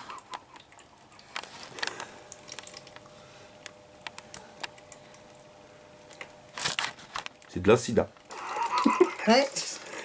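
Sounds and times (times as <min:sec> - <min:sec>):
liquid dripping: 0:00.0 - 0:06.5, 0:07.3 - 0:10.0
faint steady hum: 0:00.0 - 0:10.0.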